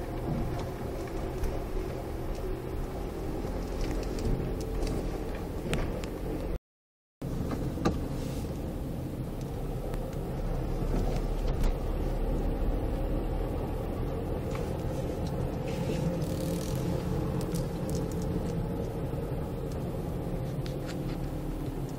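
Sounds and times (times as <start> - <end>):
car engine and tyres rumbling: 0.0 - 6.6, 7.2 - 21.9.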